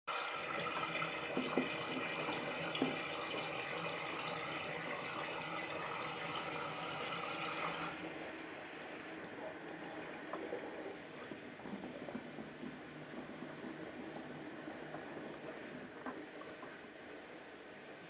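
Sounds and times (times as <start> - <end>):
water draining: 0.1 - 17.7.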